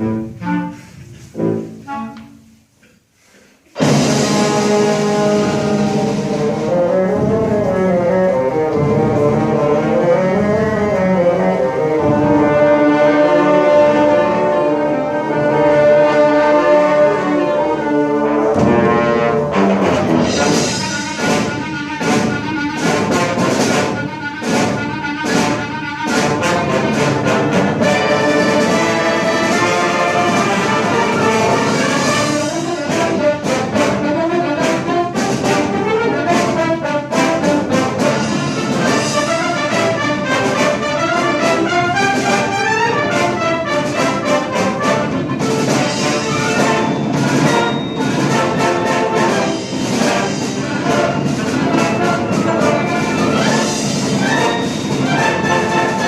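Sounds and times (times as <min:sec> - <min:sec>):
brass: 0:00.0 - 0:56.0
orchestra playing film music: 0:00.0 - 0:56.0.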